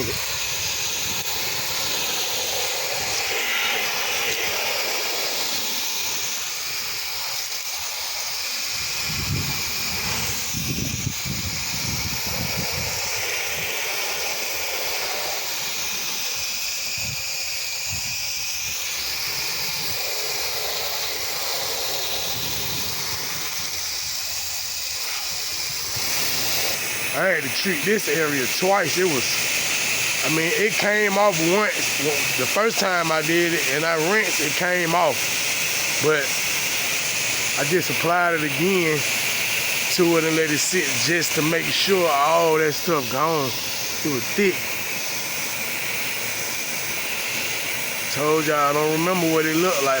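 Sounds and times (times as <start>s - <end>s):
pressure washer spray hissing: 0.0s - 50.0s.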